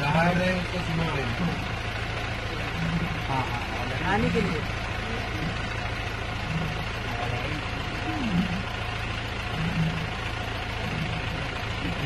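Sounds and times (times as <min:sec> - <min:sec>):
bus engine idling: 0:00.0 - 0:12.0
faint voices: 0:00.0 - 0:12.0.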